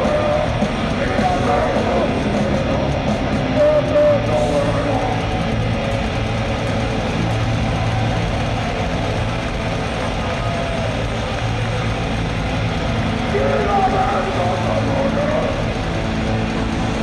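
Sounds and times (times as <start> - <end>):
crowd noise: 0.0 - 17.0.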